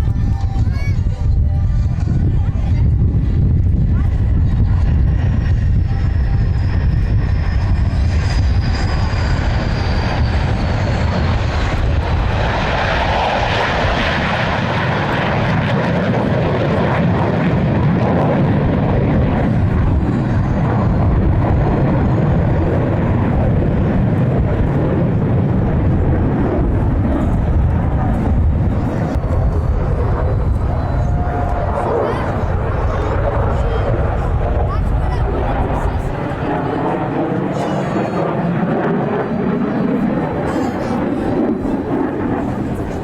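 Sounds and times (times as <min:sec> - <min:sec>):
airplane engine rumble: 0:00.0 - 0:43.0.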